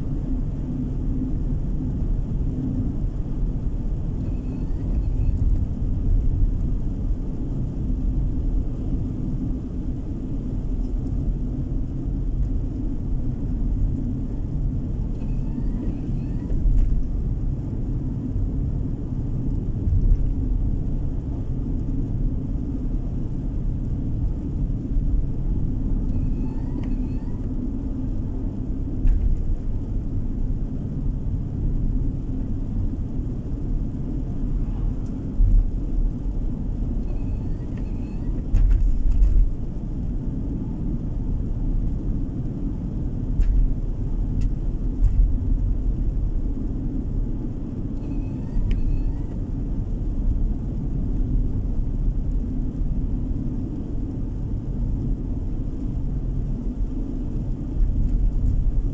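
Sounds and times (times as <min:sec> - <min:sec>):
tyres and engine rumble: 0:00.0 - 0:58.9.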